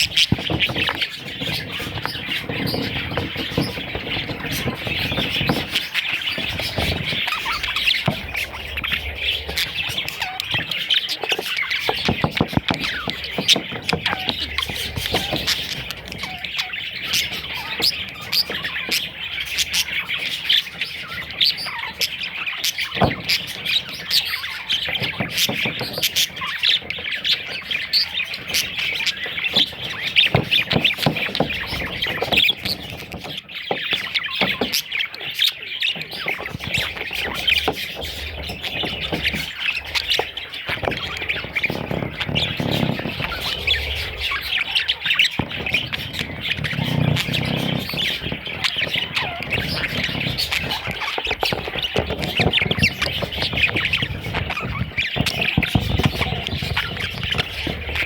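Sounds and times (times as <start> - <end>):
budgerigars chattering and squawking: 0.0 - 58.0.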